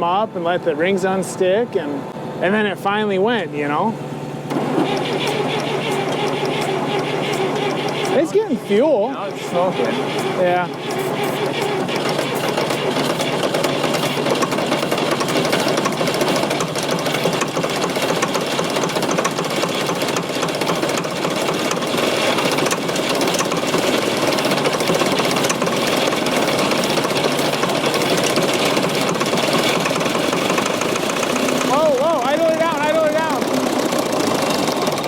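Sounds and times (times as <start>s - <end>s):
diesel engine cranking: 0.0s - 35.0s.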